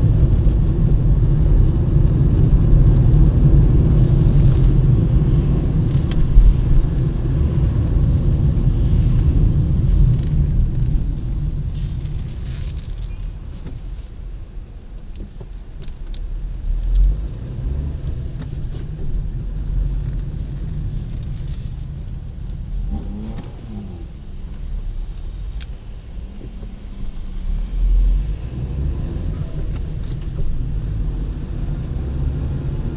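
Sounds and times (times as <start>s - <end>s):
car engine: 0.0s - 32.9s
road noise: 0.0s - 32.9s.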